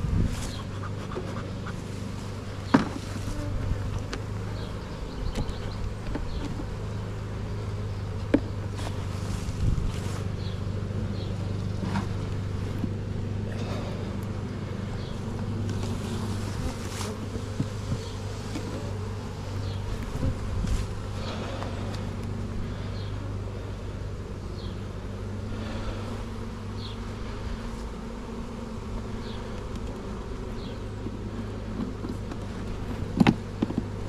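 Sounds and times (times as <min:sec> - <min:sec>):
honeybees buzzing: 0:00.0 - 0:34.0.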